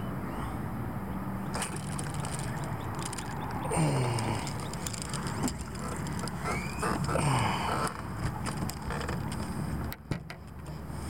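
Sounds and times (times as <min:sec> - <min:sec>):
wind rumbling on microphone: 0:00.1 - 0:10.7
creaks: 0:01.5 - 0:10.9.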